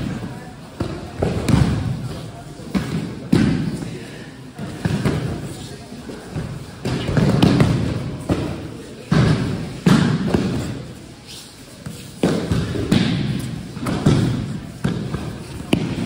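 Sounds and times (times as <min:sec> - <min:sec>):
voices in a large hall: 0:00.0 - 0:16.0.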